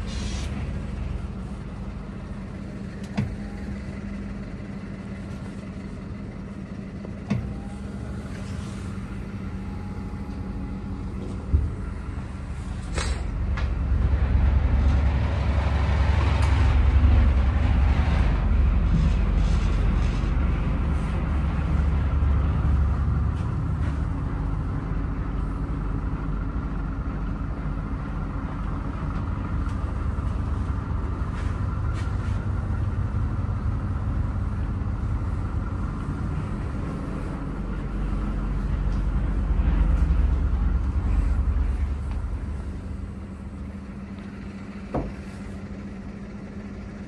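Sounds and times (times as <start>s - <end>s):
diesel truck engine idling: 0.0s - 47.0s.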